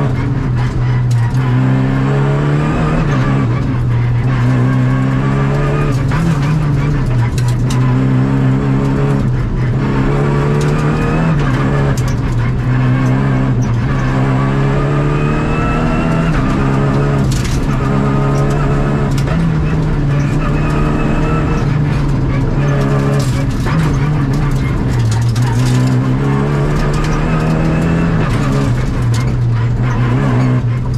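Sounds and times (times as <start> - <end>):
rally car engine revving: 0.0 - 30.9.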